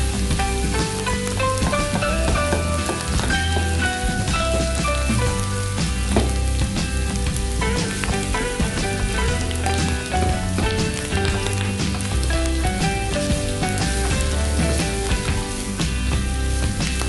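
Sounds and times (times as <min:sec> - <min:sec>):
background music: 0:00.0 - 0:17.0
meat and onions sizzling: 0:00.0 - 0:17.0.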